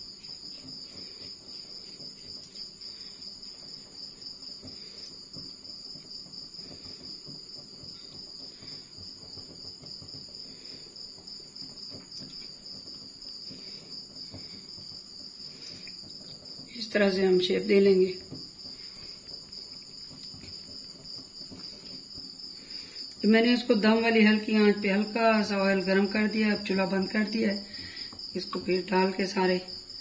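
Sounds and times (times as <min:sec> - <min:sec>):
hands rolling dough: 0:00.0 - 0:24.7
crickets chirping: 0:00.0 - 0:30.0.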